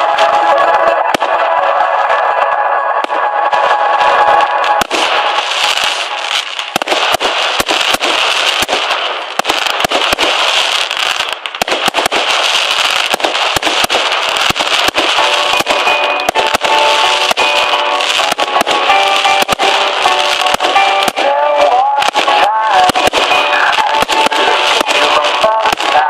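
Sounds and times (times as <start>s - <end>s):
fireworks popping and crackling: 0.0s - 26.0s
loud firework bangs: 3.0s - 26.0s
fireworks fizzing hiss: 4.6s - 26.0s.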